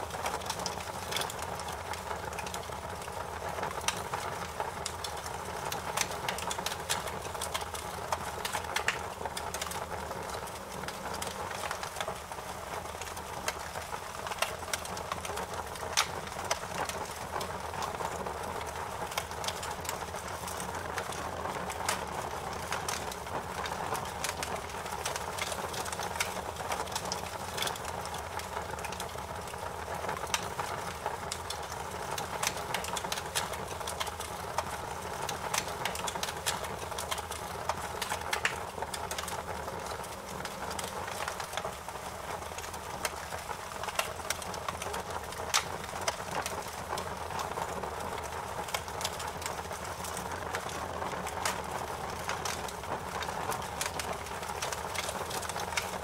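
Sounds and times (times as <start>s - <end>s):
fire crackling with pops: 0.0s - 56.0s.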